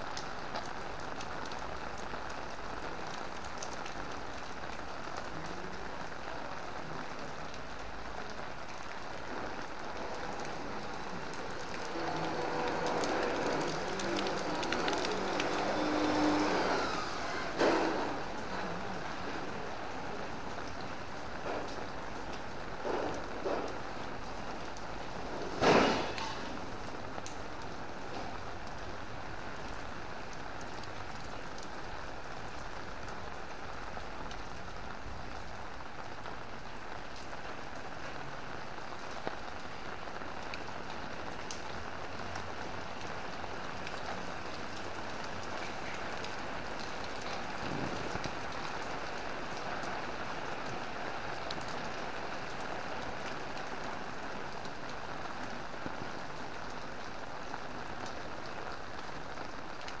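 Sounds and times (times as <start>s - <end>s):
rain falling: 0.0s - 60.0s.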